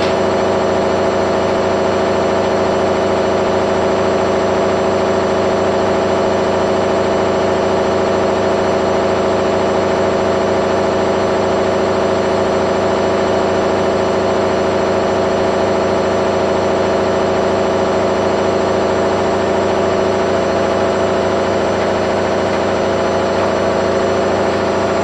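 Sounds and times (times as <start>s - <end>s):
washing machine spinning: 0.0s - 25.0s.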